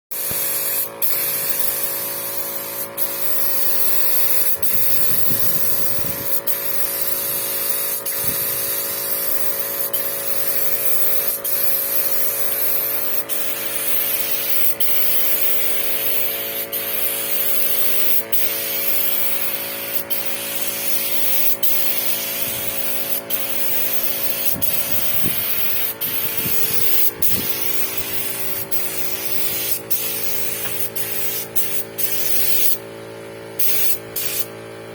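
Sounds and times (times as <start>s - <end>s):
spray gun hissing: 0.1s - 32.9s, 33.6s - 34.6s
machine hum: 0.2s - 34.9s.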